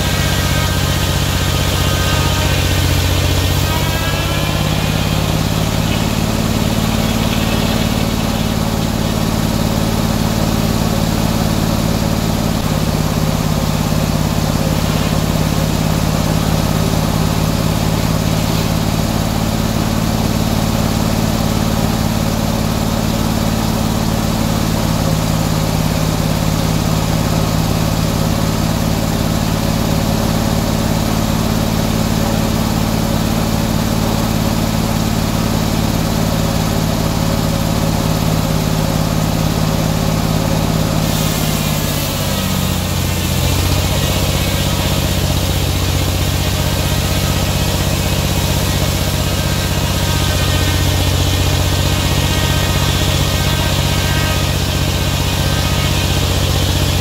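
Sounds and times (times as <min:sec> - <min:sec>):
sawmill engine droning: 0:00.0 - 0:57.0.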